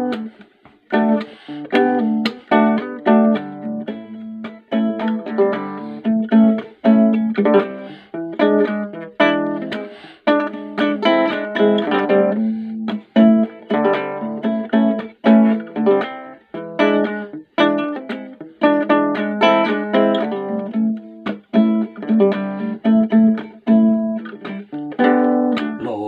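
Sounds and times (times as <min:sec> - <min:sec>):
acoustic guitar plucked: 0:00.0 - 0:26.0.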